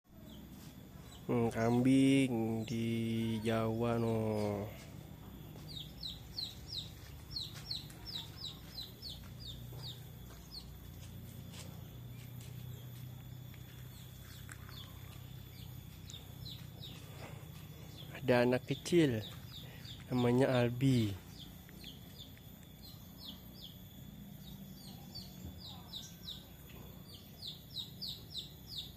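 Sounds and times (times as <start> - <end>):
low steady hum: 0.1 - 28.9
small bird chirping: 0.1 - 28.9.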